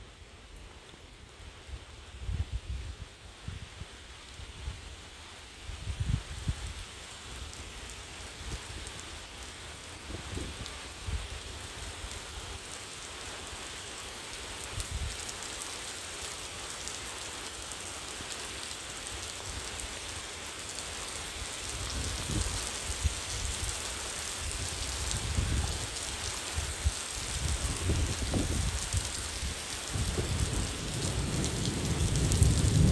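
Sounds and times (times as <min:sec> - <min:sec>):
steady rain falling: 0:00.0 - 0:32.9.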